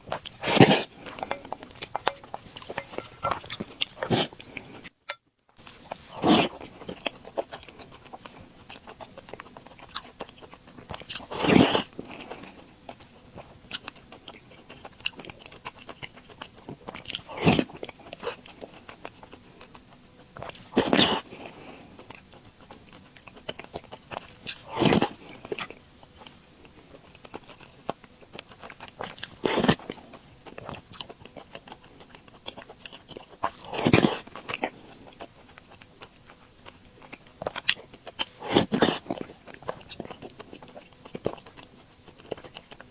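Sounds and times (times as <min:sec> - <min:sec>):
soft chewing and mouth clicks: 0:00.0 - 0:42.9.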